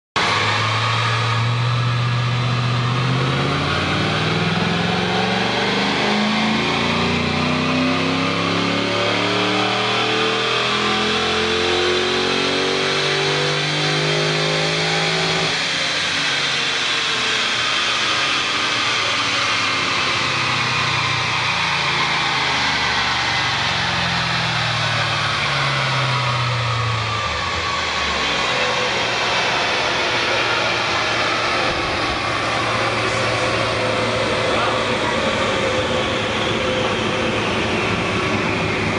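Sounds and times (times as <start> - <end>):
car engine revving on dynamometer: 0.2 - 38.9.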